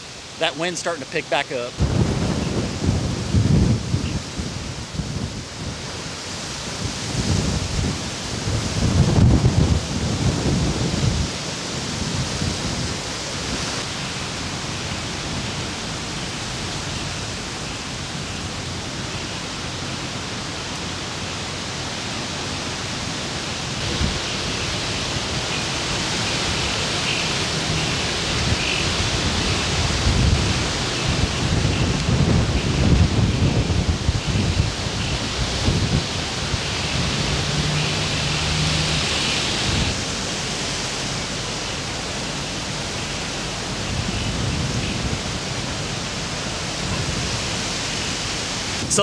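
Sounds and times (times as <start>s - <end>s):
rain: 0.0s - 49.0s
wind gusting through trees: 0.0s - 49.0s
wind buffeting microphone: 1.7s - 49.0s.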